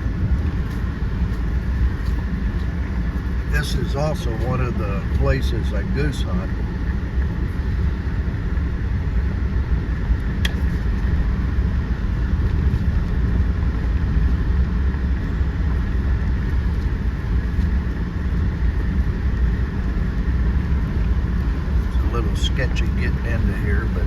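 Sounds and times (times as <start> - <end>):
vehicle driving on rough road: 0.0 - 24.0.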